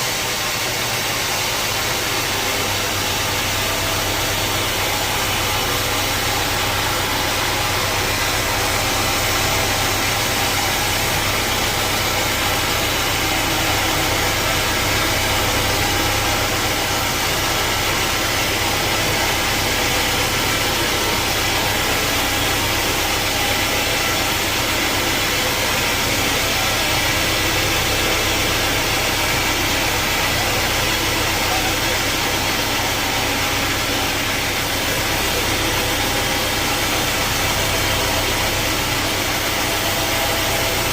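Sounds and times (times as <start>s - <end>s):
saw machinery running: 0.0s - 40.9s.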